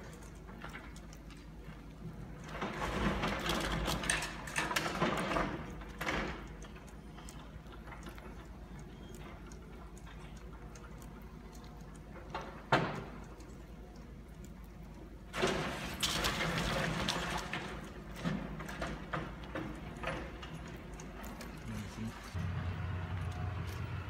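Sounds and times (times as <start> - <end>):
masonry crunching and clattering: 0.0 - 22.4.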